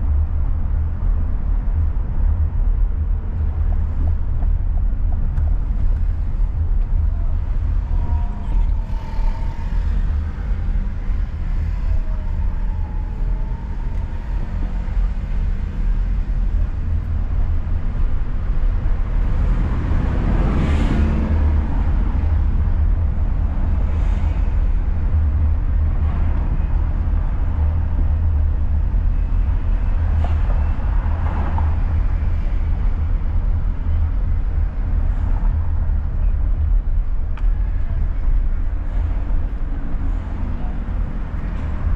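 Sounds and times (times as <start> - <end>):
car engine: 0.0 - 41.9
road noise: 0.0 - 41.9.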